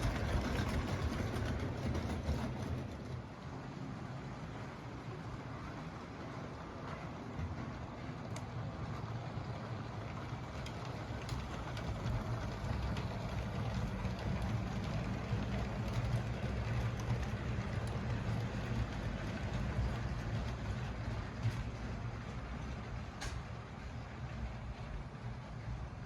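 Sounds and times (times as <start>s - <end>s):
toy train motor hum and rumble: 0.0s - 3.6s, 8.3s - 26.0s.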